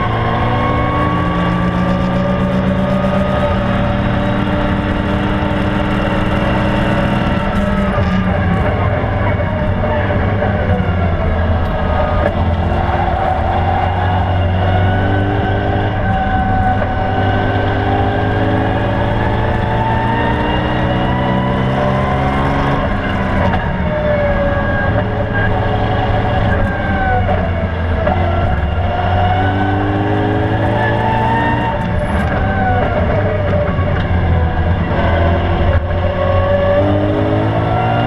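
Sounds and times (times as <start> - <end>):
car engine from inside cabin: 0.0 - 38.0.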